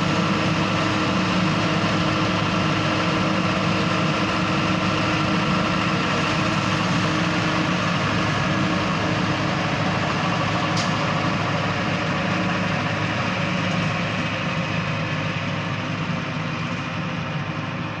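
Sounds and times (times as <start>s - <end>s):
truck engine hum: 0.0s - 18.0s.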